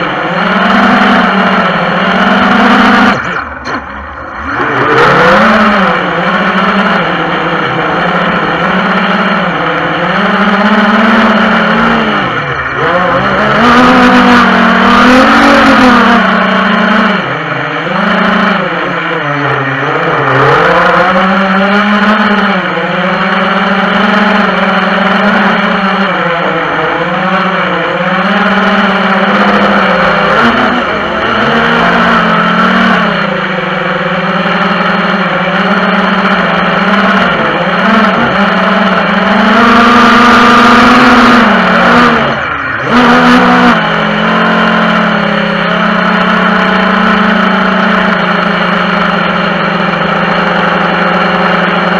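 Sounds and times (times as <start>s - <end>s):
drone propellers buzzing: 0.0s - 51.9s.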